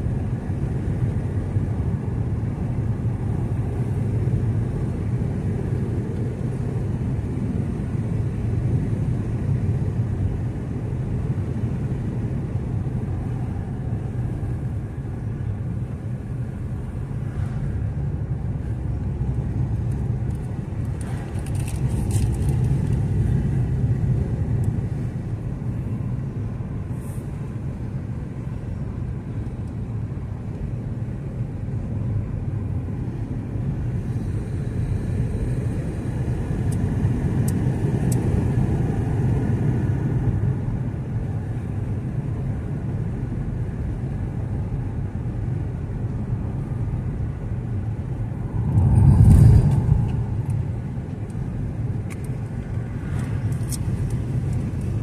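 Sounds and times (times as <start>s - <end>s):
car interior engine and tyre rumble: 0.0s - 55.0s.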